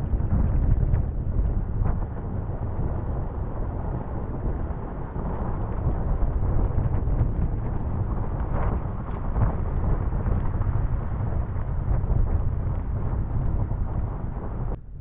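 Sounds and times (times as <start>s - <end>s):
vehicle rumbling on snowy road: 0.1s - 14.8s.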